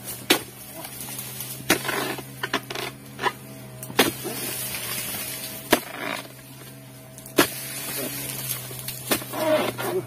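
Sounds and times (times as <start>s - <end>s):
blade striking palm fronds: 0.0s - 10.0s
fronds rustling: 0.0s - 10.0s
steady low hum: 0.0s - 10.0s.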